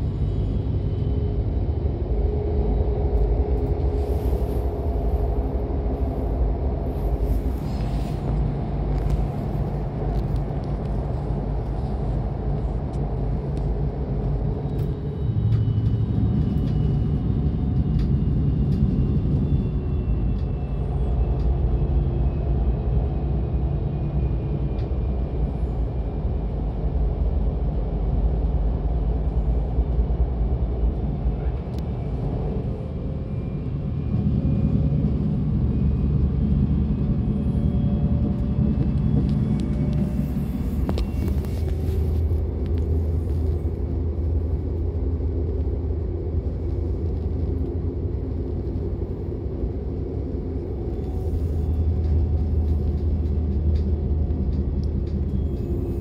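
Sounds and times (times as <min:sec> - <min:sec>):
faint whining tones: 0:00.0 - 0:56.0
train rolling rumble: 0:00.0 - 0:56.0.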